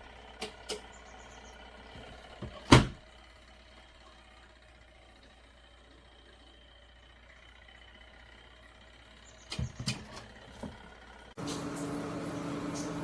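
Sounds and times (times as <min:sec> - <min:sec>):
motor hum with clear tone: 0:00.0 - 0:13.0.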